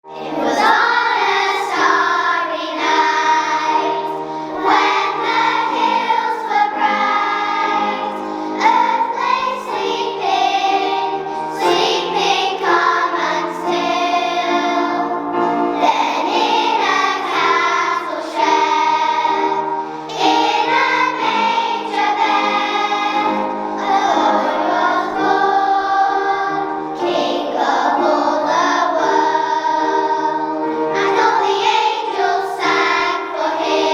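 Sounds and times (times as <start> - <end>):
instrumental accompaniment: 0.0 - 33.9
choir of young voices singing: 0.1 - 33.9.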